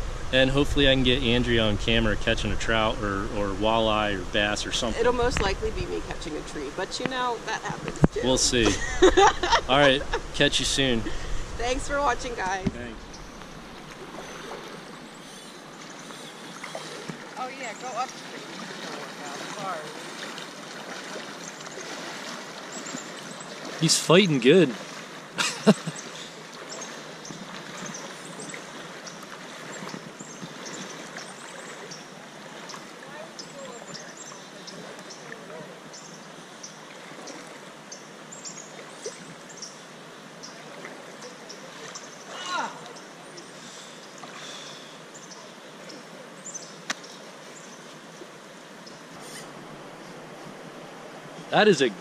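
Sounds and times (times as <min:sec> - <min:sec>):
creek water rushing over rocks: 0:00.0 - 0:52.0.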